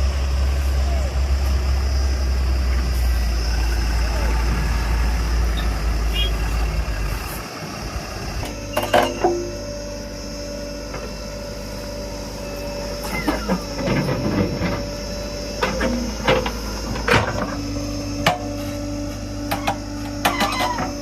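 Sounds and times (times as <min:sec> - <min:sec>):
backhoe engine running: 0:00.0 - 0:21.0
faint whine: 0:00.0 - 0:21.0.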